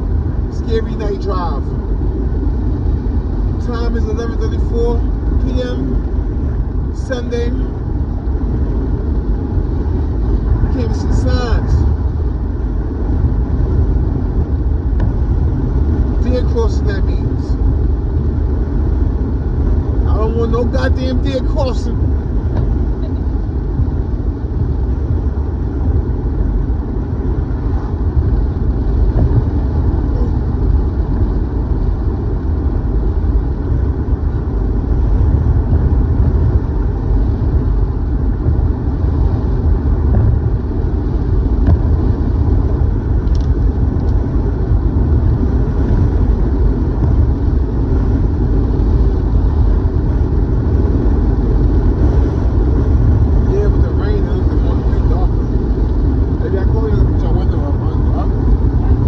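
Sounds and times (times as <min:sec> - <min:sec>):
car road noise: 0:00.0 - 0:59.0.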